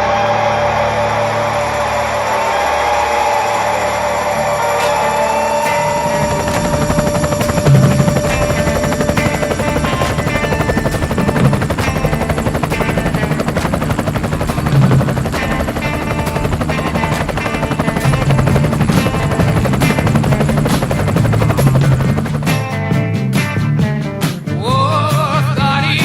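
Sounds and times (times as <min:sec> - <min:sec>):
helicopter rotor and engine throb: 0:00.0 - 0:26.0.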